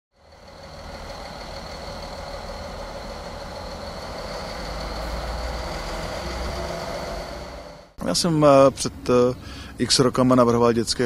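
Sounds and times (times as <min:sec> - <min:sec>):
steady high whine: 0:00.2 - 0:09.2
low engine-like hum: 0:00.2 - 0:09.8.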